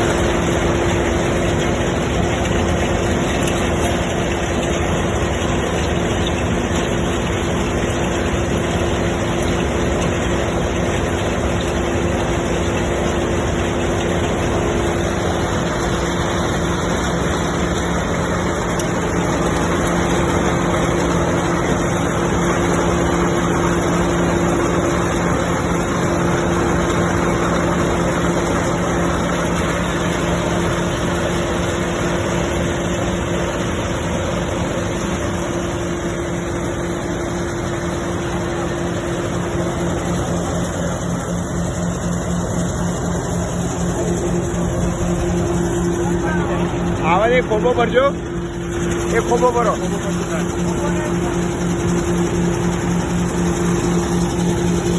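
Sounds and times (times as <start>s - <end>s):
engine hum: 0.0s - 54.9s
grader machine noise: 0.0s - 54.9s.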